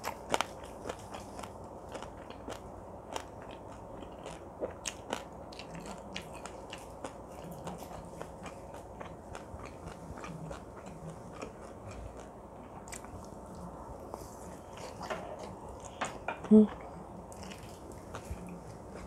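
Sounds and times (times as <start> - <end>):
person chewing close up: 0.0 - 16.0, 16.7 - 19.0.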